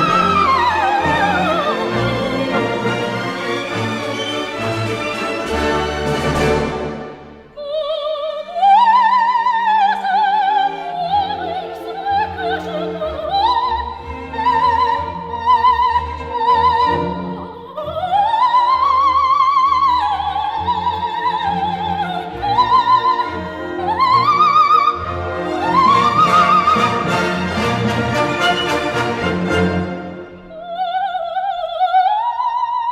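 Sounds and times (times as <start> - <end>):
operatic soprano singing: 0.0 - 4.6, 7.4 - 32.9
orchestral accompaniment: 0.0 - 30.8.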